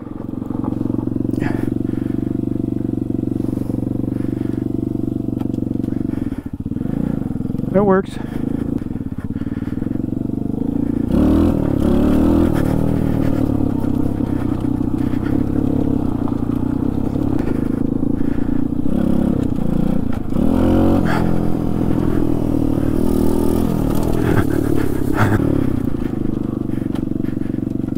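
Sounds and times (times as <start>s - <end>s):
pit bike engine revving: 0.0s - 27.9s.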